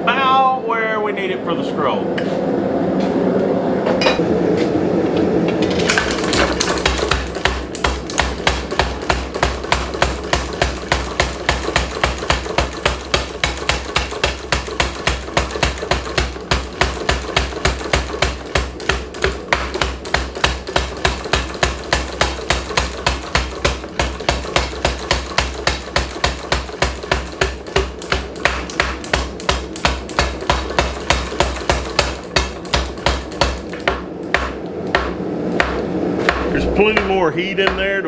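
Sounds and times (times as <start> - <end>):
hammer striking hot steel on anvil: 5.9 - 38.0.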